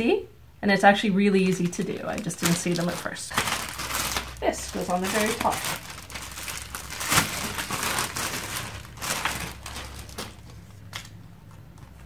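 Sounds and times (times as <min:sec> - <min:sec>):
plastic bag crinkling: 0:01.4 - 0:11.2.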